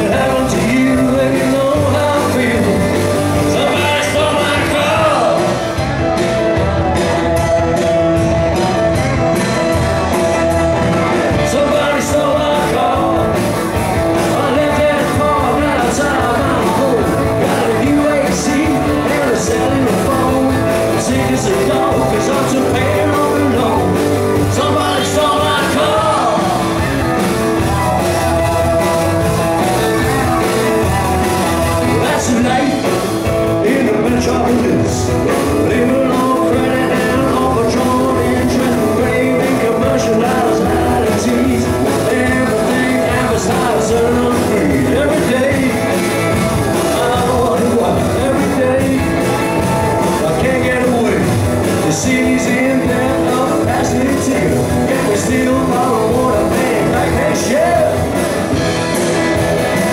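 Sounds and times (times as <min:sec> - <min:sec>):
person singing: 0:00.0 - 0:06.0, 0:10.8 - 0:58.7
bass guitar: 0:00.0 - 0:59.9
drums: 0:00.0 - 0:59.9
electric guitar: 0:00.0 - 0:59.9
keyboard: 0:00.0 - 0:59.9.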